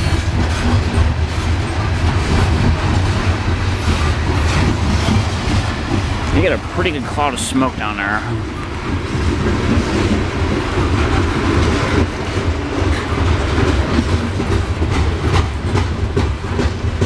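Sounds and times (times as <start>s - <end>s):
freight train rumbling past: 0.0s - 17.0s
wheels clacking over rail joints: 0.0s - 17.0s.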